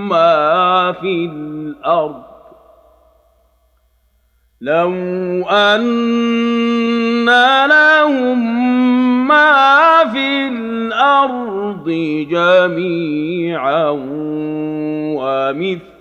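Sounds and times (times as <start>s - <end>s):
man reciting melodically: 0.0s - 2.9s, 4.6s - 16.0s.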